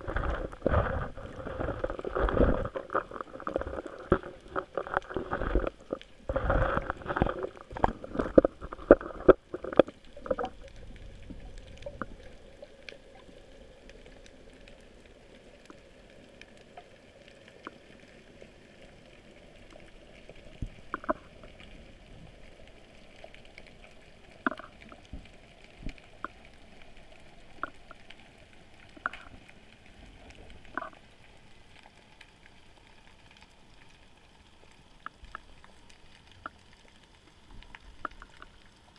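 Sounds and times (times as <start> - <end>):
low water rumble: 0.0 - 38.9.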